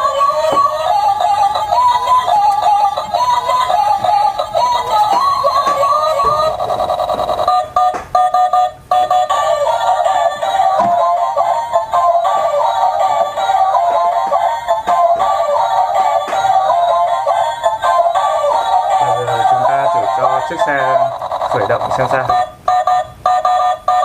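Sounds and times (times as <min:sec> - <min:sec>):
tinny electronic tune with synthesized singing: 0:00.0 - 0:24.0.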